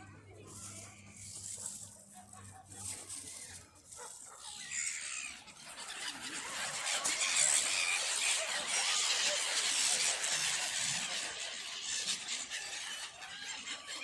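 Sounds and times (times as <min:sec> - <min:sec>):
flock of birds squealing: 0:00.5 - 0:14.0.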